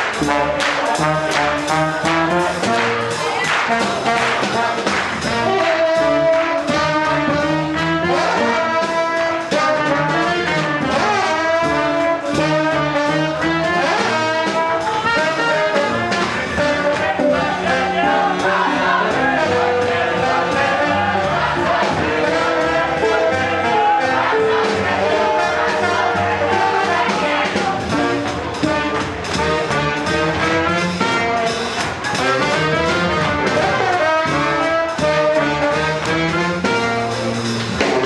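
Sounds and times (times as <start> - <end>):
swing jazz band: 0.0 - 38.0.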